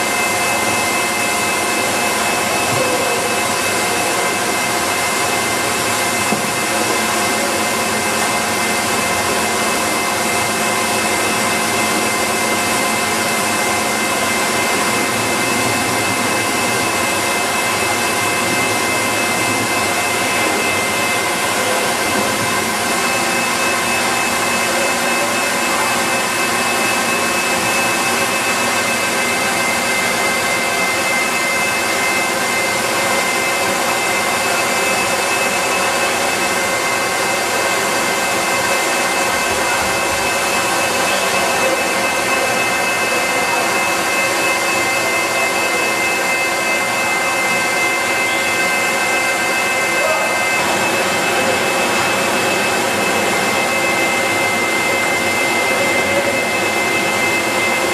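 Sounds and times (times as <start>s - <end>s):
factory machinery din: 0.0s - 57.9s
high machine whine: 0.0s - 57.9s.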